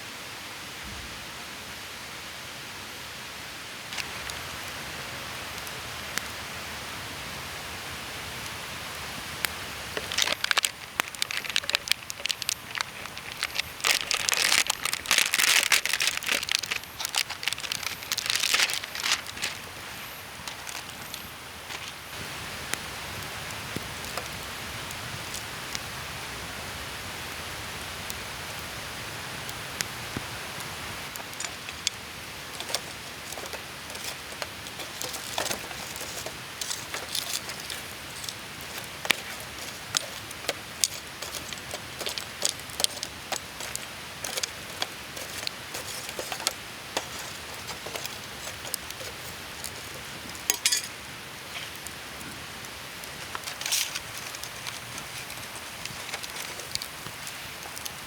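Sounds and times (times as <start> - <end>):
steady outdoor hiss: 0.0 - 58.0
close crackling and crinkling: 3.9 - 4.9, 8.5 - 25.9, 29.8 - 58.0.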